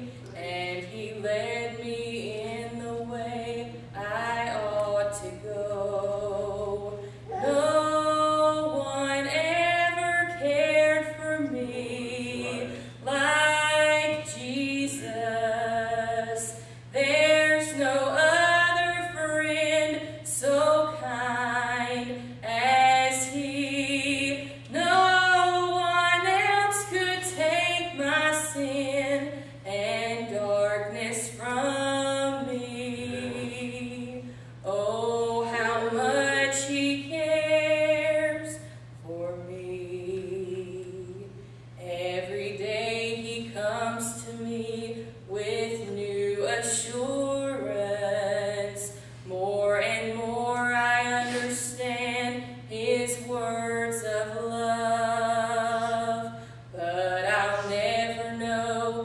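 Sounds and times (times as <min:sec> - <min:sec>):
steady low hum: 0:00.0 - 0:59.0
woman singing gospel: 0:00.0 - 0:59.0.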